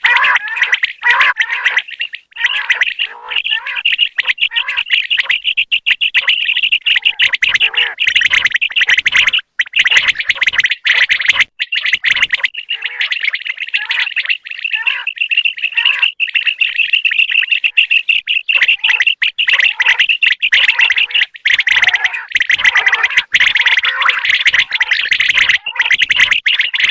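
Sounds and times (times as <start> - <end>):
quail calling: 0.0 - 26.9.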